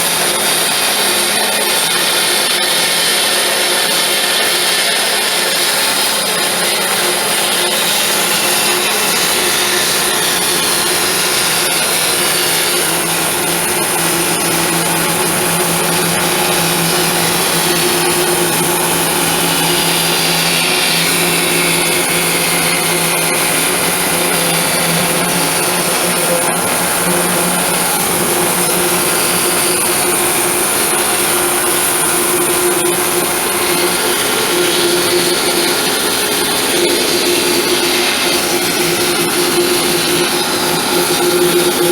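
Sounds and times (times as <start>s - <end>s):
power tool blade cutting: 0.0s - 41.9s.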